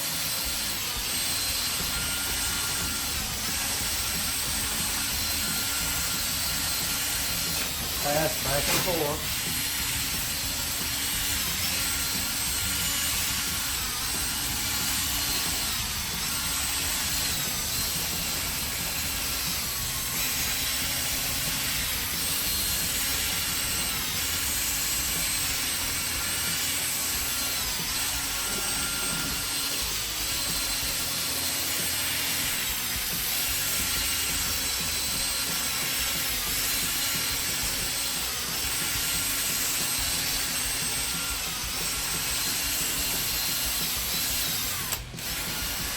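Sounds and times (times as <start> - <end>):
drill sanding plastic: 0.0 - 45.9.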